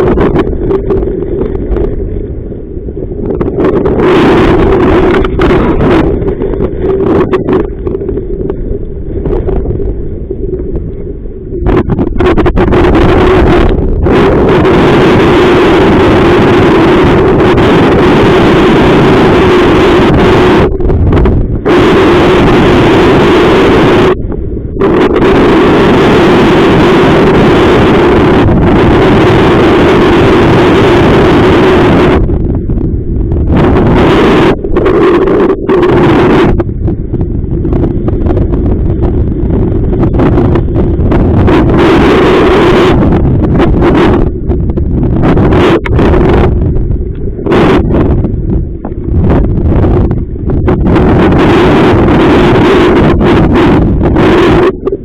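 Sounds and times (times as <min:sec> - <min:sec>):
sharp crackling bursts: 0:00.0 - 0:55.0
steady low drone: 0:00.0 - 0:55.0
wind buffeting microphone: 0:00.0 - 0:55.0.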